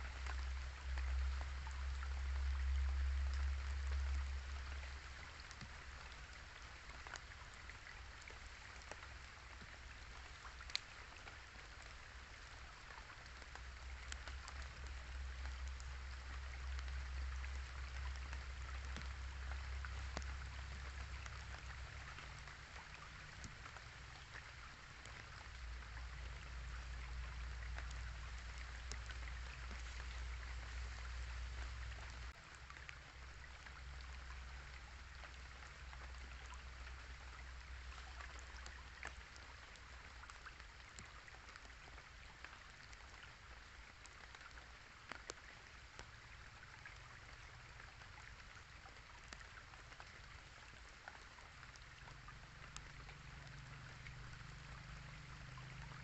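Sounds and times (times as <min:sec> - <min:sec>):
light rain pattering: 0:00.0 - 0:56.0
raindrops ticking close by: 0:00.0 - 0:56.0
small river flowing: 0:00.0 - 0:56.0.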